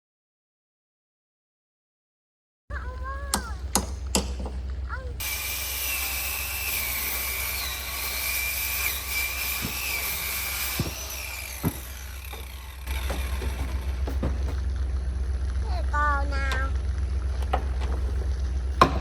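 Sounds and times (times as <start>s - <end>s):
power tool whining: 2.8s - 19.0s.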